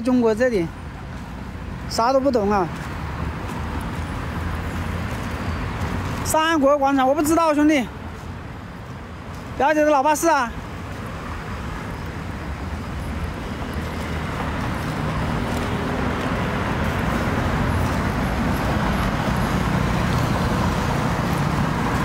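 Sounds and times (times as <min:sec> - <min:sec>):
road traffic rush: 0:00.0 - 0:22.0.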